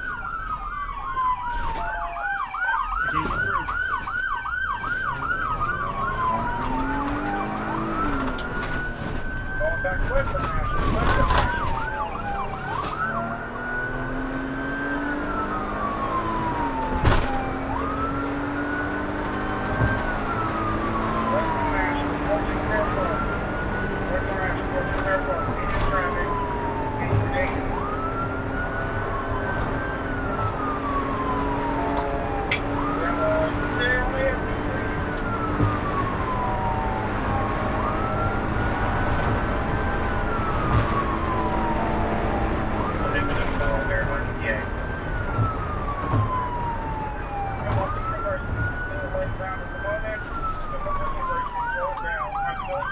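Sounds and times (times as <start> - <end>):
car engine drone: 0.0 - 52.9
police siren yelp and wail: 0.0 - 52.9.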